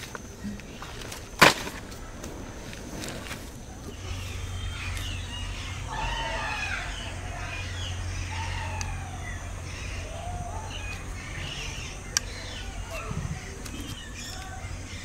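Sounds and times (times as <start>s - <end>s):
birds calling: 0.0s - 15.0s
steady low hum: 0.0s - 15.0s.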